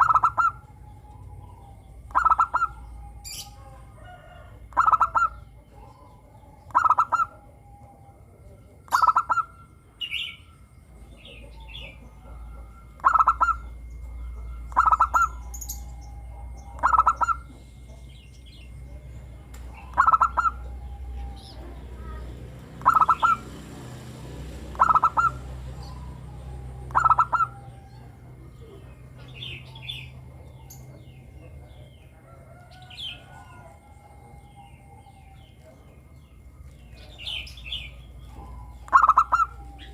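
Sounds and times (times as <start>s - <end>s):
dove cooing: 0.0s - 39.9s
other birds chirping: 0.0s - 39.9s.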